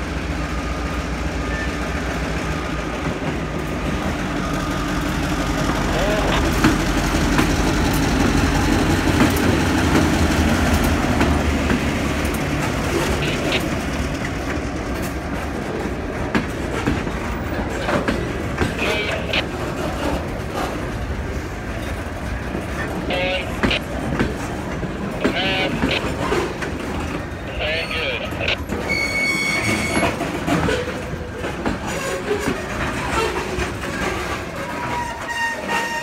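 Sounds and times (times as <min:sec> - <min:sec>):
diesel locomotive rumble: 0:00.0 - 0:36.0
train wheels clacking on rail joints: 0:02.2 - 0:27.5, 0:28.6 - 0:36.0.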